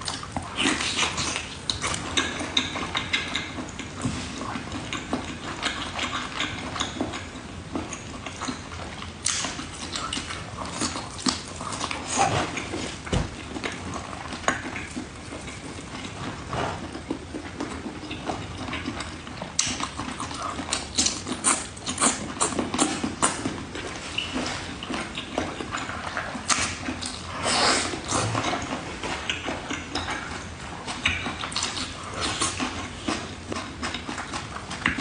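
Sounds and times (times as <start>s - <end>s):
chewing and lip-smacking: 0.0s - 35.0s.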